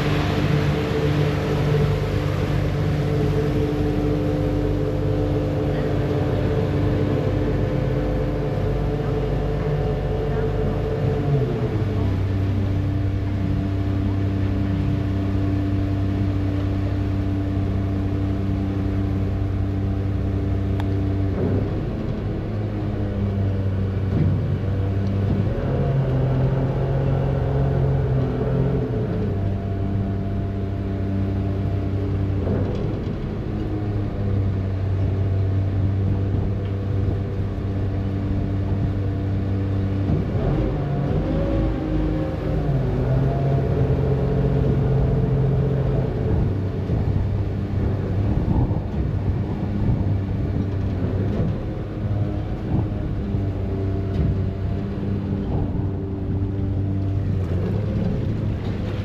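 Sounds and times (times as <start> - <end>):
ferry diesel engine droning: 0.0 - 59.0.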